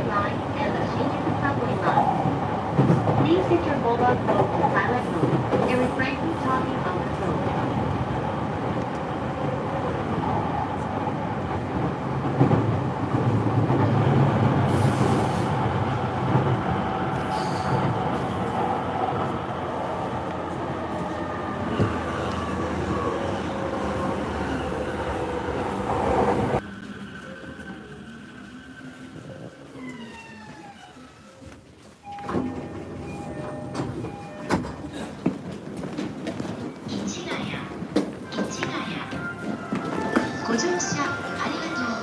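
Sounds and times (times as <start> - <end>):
train wheels rumbling on rail: 0.0 - 30.9, 31.6 - 42.0.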